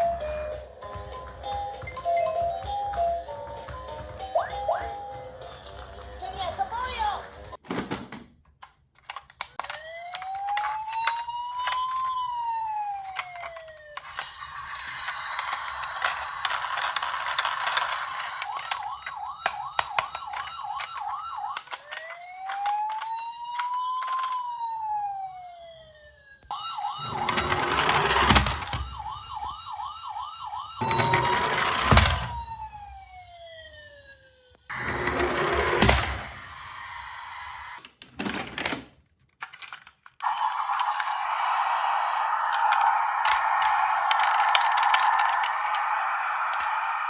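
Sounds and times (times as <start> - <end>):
toy electronic siren: 0.0 - 7.6, 9.4 - 37.8, 40.1 - 47.0.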